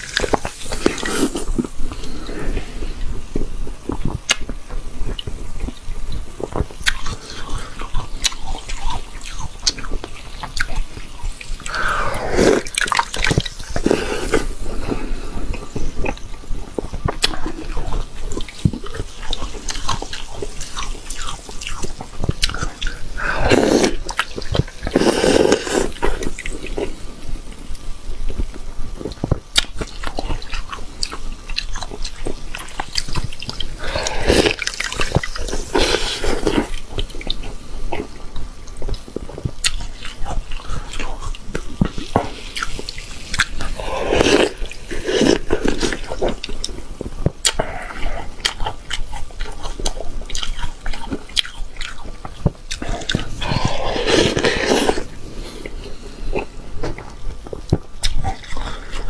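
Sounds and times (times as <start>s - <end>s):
ice crackling and crunching: 0.0s - 5.8s, 6.4s - 27.1s, 28.4s - 59.0s.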